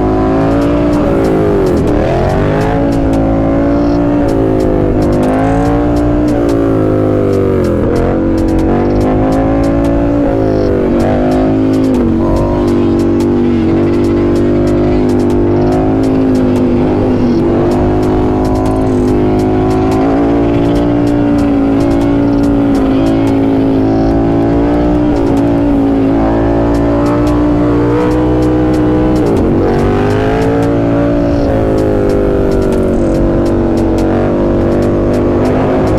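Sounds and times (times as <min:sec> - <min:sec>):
motorcycle engine shifting gears: 0:00.0 - 0:35.9.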